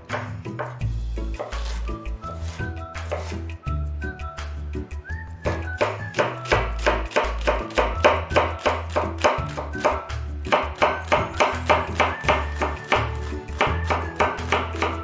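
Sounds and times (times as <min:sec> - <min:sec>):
music with steady beat: 0:00.0 - 0:15.0.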